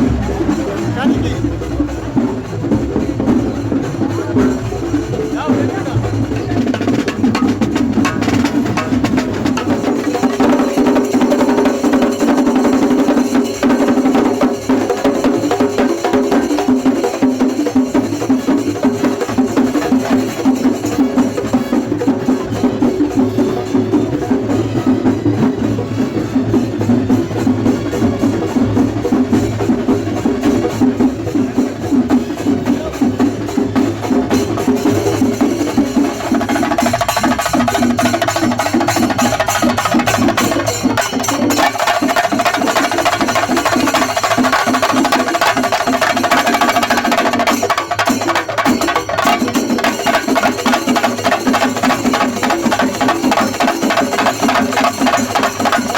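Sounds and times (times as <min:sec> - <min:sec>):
percussion-led music: 0:00.0 - 0:55.9.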